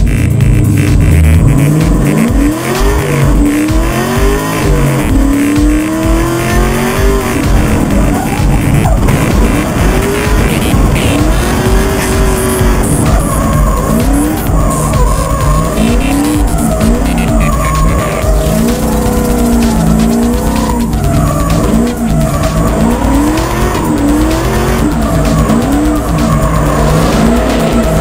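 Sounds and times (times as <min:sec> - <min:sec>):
car engine under load: 0:00.0 - 0:28.0
tires squealing: 0:00.0 - 0:28.0.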